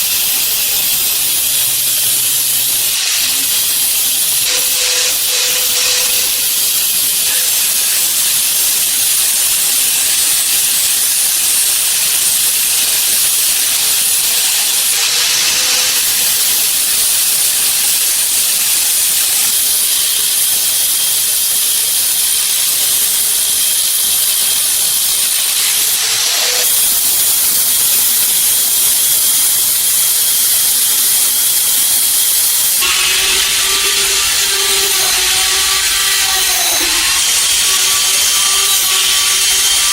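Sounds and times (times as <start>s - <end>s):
loud high-pitched hissing: 0.0s - 39.9s.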